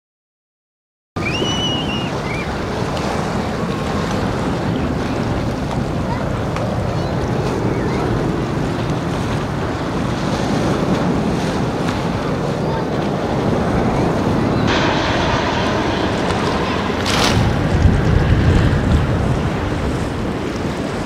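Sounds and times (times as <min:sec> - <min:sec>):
water washing: 0:01.2 - 0:21.0
wind noise on microphone: 0:01.2 - 0:21.0.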